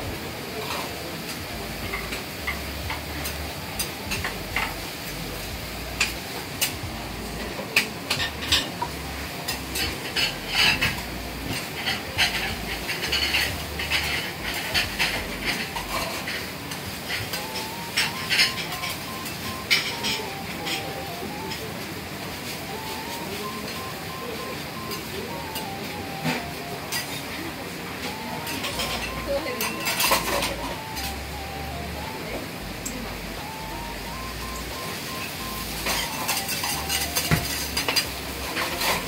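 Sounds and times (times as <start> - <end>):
food sizzling on hot plate: 0.2 - 31.8, 33.6 - 39.0.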